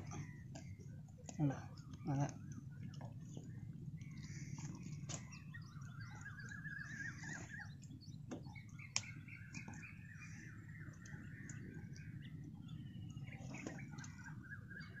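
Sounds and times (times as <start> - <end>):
birds chirping: 0.0 - 15.0
low background rumble: 0.0 - 15.0.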